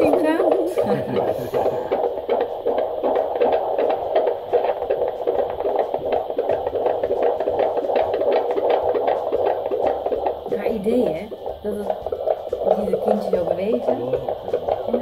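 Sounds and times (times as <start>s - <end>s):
fetal heartbeat on doppler: 0.0s - 15.0s.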